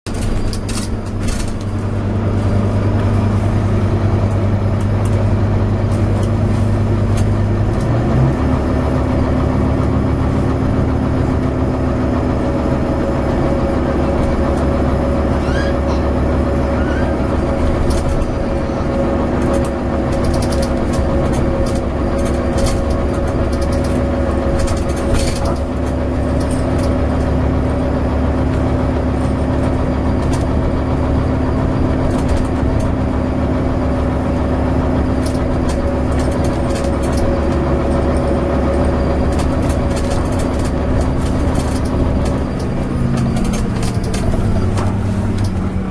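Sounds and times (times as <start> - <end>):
bus diesel engine running: 0.0 - 45.9
light rattles and clicks: 0.1 - 45.9.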